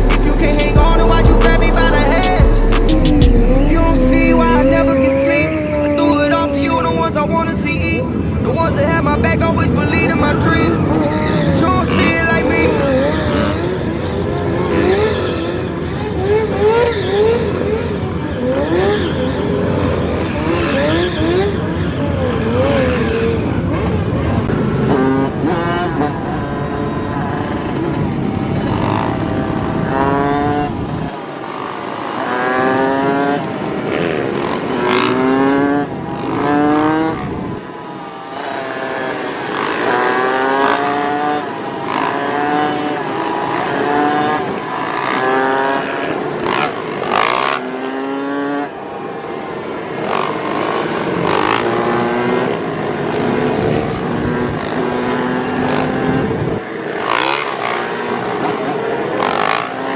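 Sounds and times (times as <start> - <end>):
motorcycle engine accelerating: 0.0 - 6.6, 10.8 - 59.9.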